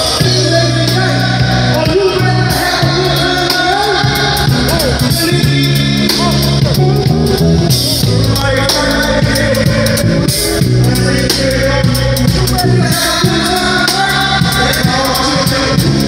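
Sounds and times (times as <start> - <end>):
bass guitar: 0.0 - 16.0
drum kit: 0.0 - 16.0
electric guitar: 0.0 - 16.0
keyboard: 0.0 - 16.0.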